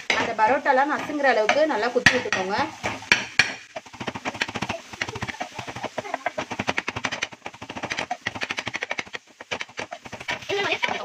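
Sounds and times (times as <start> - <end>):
metal tumbler striking pan: 0.0 - 11.0.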